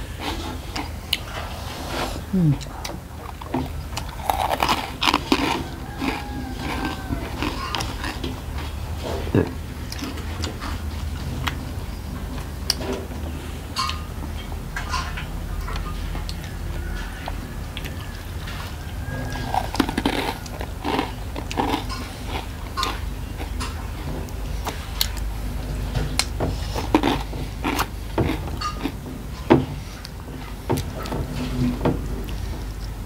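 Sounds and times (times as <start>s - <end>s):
person chewing crunchy food: 0.0s - 31.6s.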